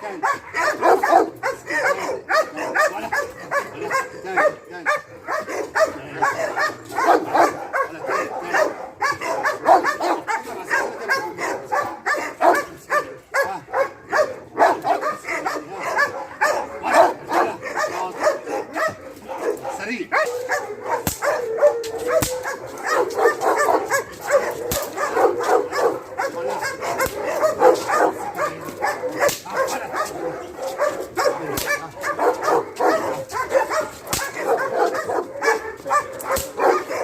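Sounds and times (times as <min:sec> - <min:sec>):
dog barking rapidly: 0:00.0 - 0:37.0.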